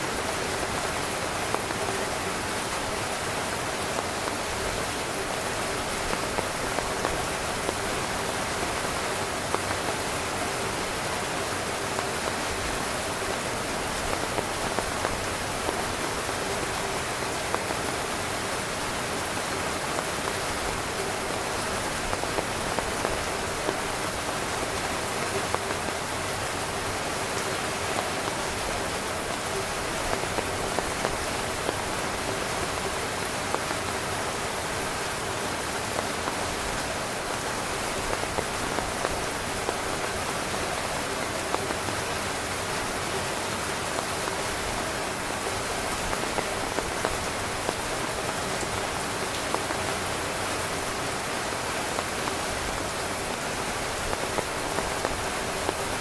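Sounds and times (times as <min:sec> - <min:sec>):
heavy rain on tent fabric: 0:00.0 - 0:56.0.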